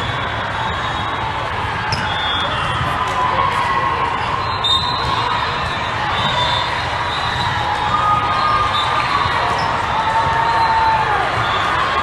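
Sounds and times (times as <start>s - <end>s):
ball and court sounds: 0.0s - 12.0s
crowd hubbub in gym: 0.0s - 12.0s.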